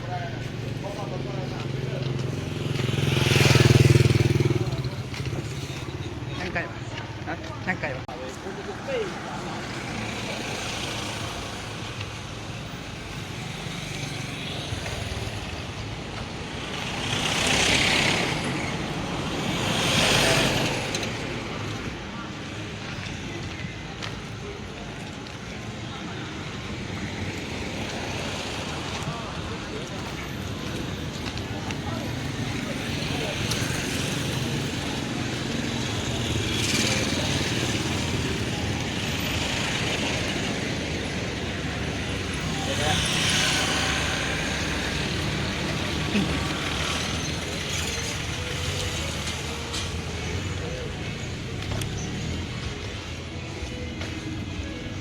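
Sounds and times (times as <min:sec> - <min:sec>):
street traffic rumble: 0:00.0 - 0:55.0
vehicles passing: 0:00.0 - 0:55.0.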